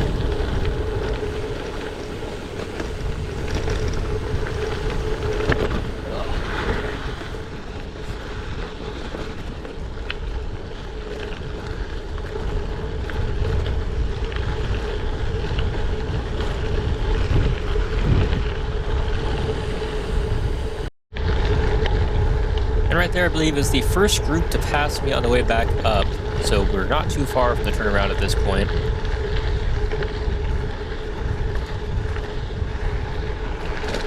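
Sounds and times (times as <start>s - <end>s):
constant hum: 0.0s - 34.0s
wind rushing over microphone: 0.0s - 34.0s.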